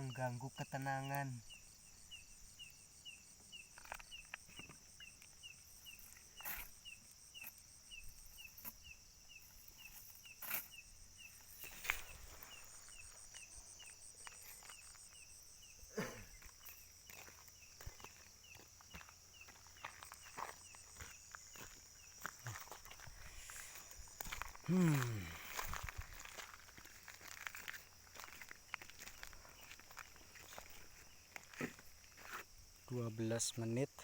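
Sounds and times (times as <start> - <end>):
insect chirping: 0.0 - 34.0
insects buzzing: 0.0 - 34.0.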